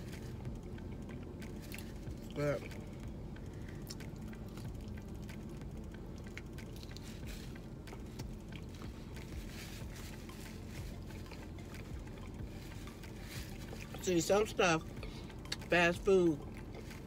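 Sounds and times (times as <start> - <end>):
person chewing food: 0.0 - 15.7, 16.4 - 17.0
steady low hum: 0.0 - 17.0.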